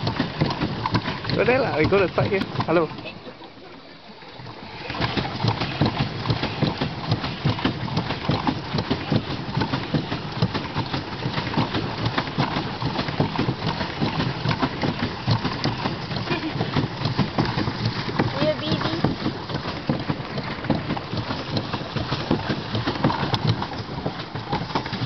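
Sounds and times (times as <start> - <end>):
pedal boat paddles clattering: 0.0 - 25.0.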